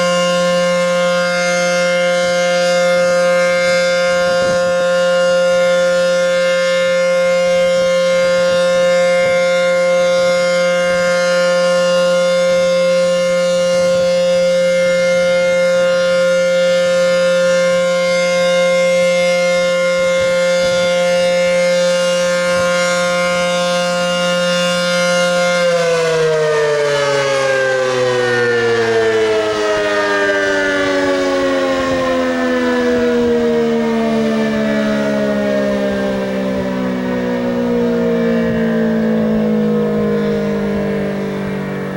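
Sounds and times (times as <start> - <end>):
warning siren steady tone: 0.0 - 41.9.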